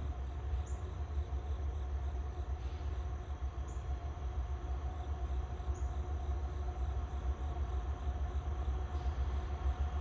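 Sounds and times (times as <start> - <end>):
distant diesel locomotive rumble: 0.0 - 10.0.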